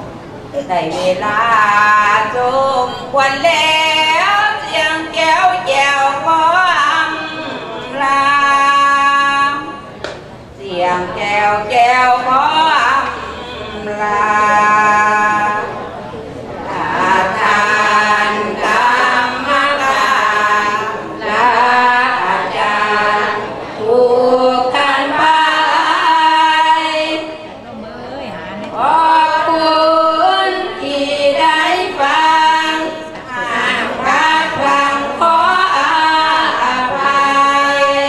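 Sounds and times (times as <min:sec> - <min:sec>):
women singing in unison: 0:00.6 - 0:15.9, 0:16.6 - 0:38.0.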